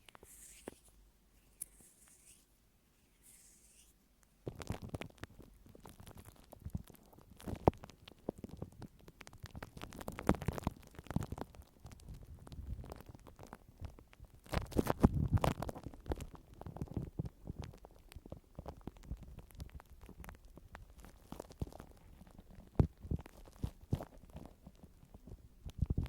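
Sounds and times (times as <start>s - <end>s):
scratching and crackling: 0.0s - 26.0s.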